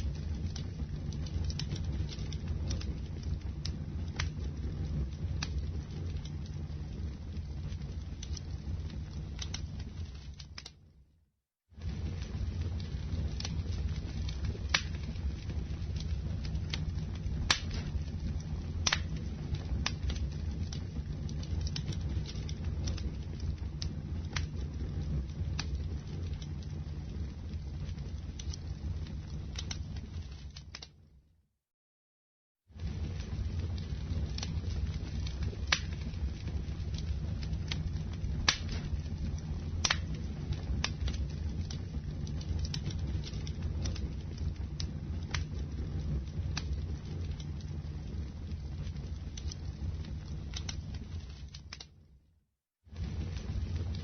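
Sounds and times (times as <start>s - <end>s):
campfire crackles and pops: 0.0s - 10.9s, 11.8s - 31.1s, 32.8s - 52.1s, 52.9s - 54.0s
low rumble of flames: 0.0s - 31.4s, 32.6s - 54.0s.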